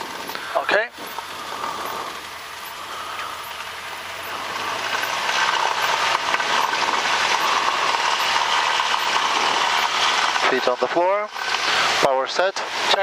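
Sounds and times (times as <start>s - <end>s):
light aircraft engine and propeller: 0.0s - 13.0s.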